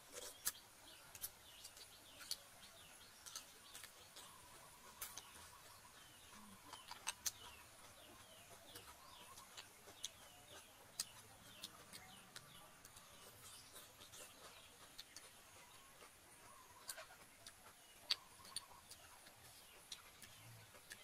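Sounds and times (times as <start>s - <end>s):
high chirping birdsong: 0.1s - 21.0s.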